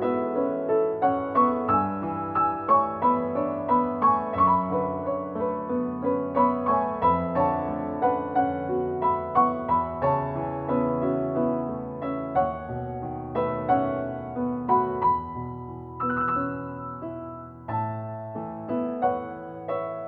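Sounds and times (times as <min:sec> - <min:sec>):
gentle piano arpeggio: 0:00.0 - 0:20.0.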